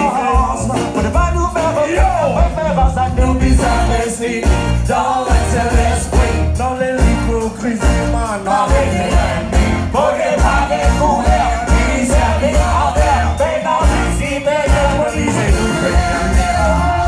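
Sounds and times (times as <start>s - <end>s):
live band playing: 0.0s - 17.0s
people singing into microphones: 0.0s - 17.0s
pulsing bass: 0.3s - 17.0s.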